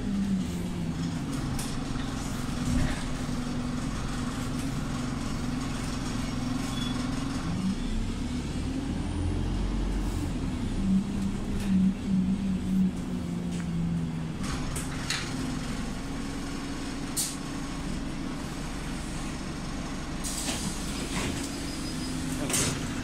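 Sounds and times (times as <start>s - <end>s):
bus engine drone: 0.0s - 23.0s
road rumble: 0.0s - 23.0s.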